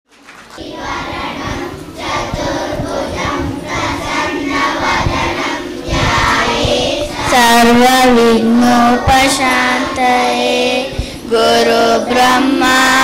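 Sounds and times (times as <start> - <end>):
children chanting in unison: 0.6 - 13.0.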